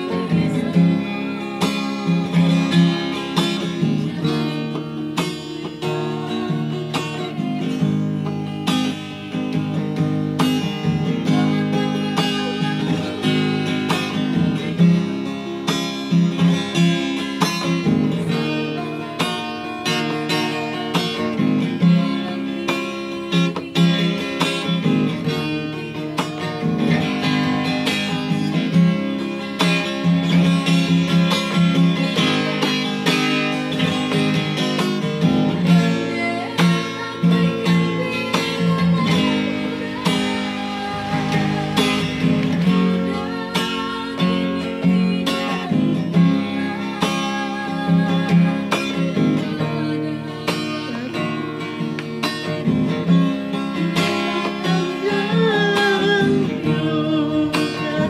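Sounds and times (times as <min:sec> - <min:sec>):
plucked acoustic guitar: 0:00.0 - 0:58.0
woman singing: 0:00.0 - 0:58.0.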